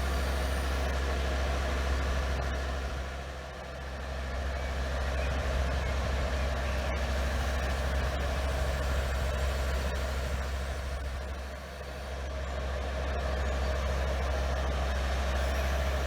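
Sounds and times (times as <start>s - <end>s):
diesel lorry engine humming: 0.0s - 16.0s.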